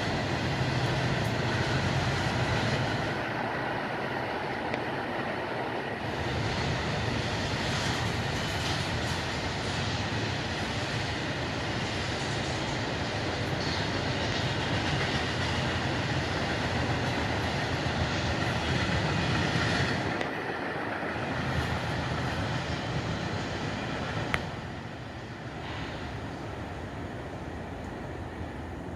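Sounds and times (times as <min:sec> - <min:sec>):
freight train cars rolling: 0:00.0 - 0:28.9.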